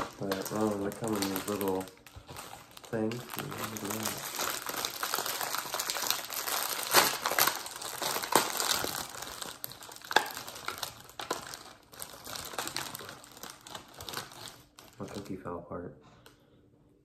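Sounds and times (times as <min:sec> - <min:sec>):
plastic packaging snapping: 0:00.0 - 0:15.4
plastic packaging crinkling: 0:00.0 - 0:15.5.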